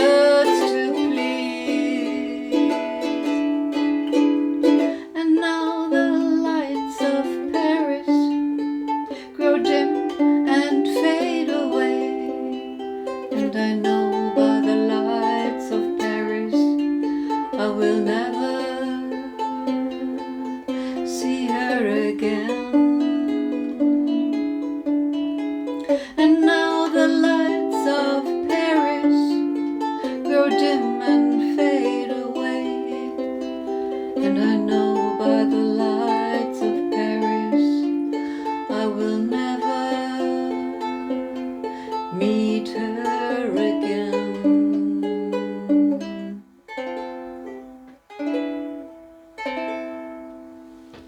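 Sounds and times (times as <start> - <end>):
ukulele playing: 0.0 - 51.0.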